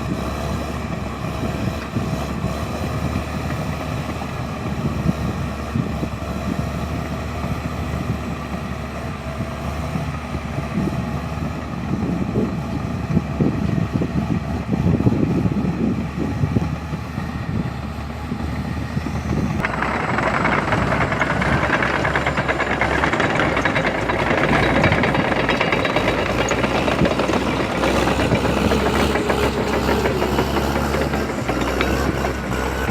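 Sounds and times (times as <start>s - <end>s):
heavy vehicle engine running: 0.0s - 32.9s.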